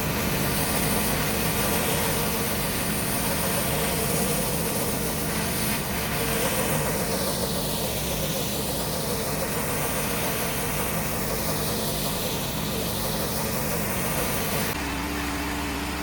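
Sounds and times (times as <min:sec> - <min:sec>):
water spray hissing: 0:00.0 - 0:14.8
pressure washer engine humming: 0:00.0 - 0:16.0.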